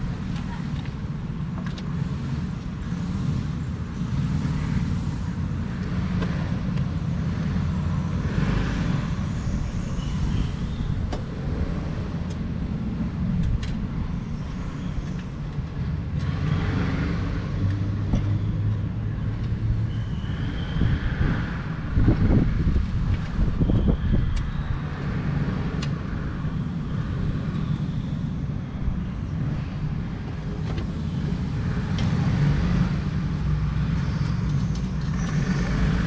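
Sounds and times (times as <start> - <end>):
low rumble of vehicles: 0.0 - 36.0.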